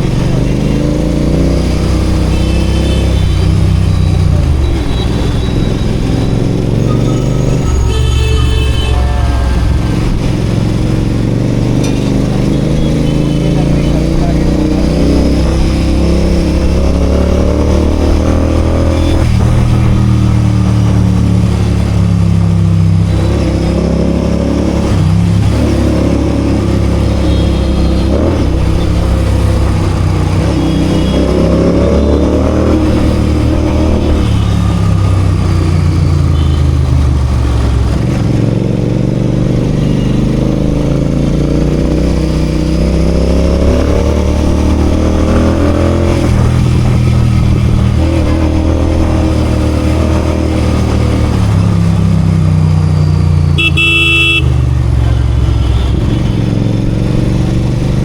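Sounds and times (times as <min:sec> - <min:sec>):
motorcycle engine accelerating: 0:09.8 - 0:58.0.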